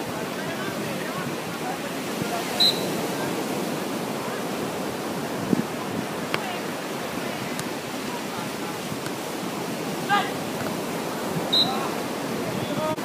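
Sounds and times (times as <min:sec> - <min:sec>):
faint voices: 0:00.0 - 0:13.0
surf: 0:00.0 - 0:13.0
wind: 0:00.0 - 0:13.0.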